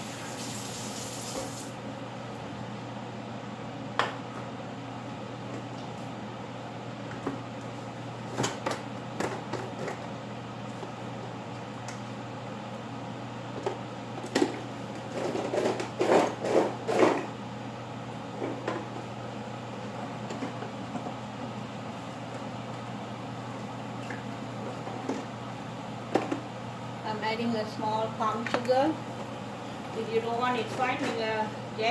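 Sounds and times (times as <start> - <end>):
kitchen appliance humming: 4.0 - 31.9.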